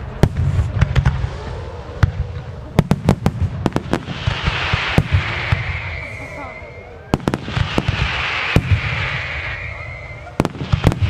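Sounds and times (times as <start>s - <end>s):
low rumble: 0.0s - 10.4s
dense hiss: 0.0s - 11.0s
firework bangs: 0.0s - 11.0s.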